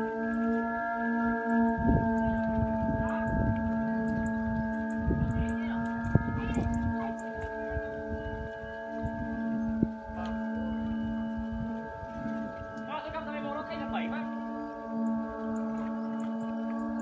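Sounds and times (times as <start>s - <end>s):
kite flutes droning: 0.0s - 17.0s
wind buffeting microphone: 0.0s - 17.0s.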